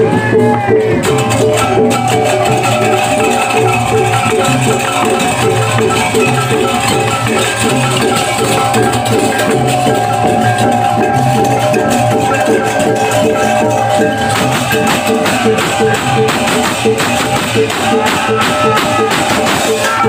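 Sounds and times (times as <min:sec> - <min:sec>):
drums: 0:00.0 - 0:20.0
hand cymbals clashing: 0:00.9 - 0:20.0
ringing gongs: 0:01.0 - 0:20.0.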